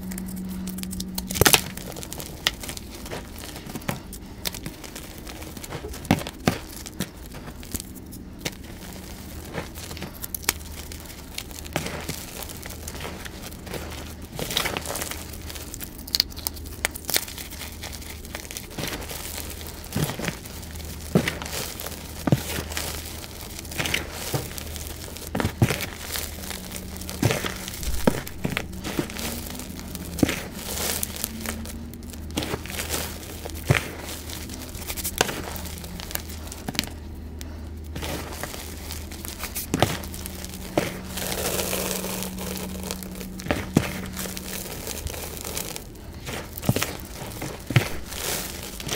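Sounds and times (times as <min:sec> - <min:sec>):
chalk crunching and crackling: 0:00.0 - 0:48.9
steady low hum: 0:00.0 - 0:48.9.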